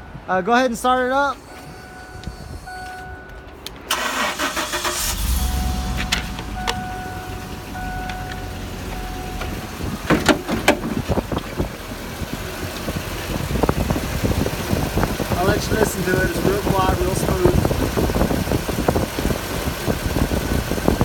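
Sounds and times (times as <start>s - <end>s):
truck engine starting and idling: 0.8s - 21.0s.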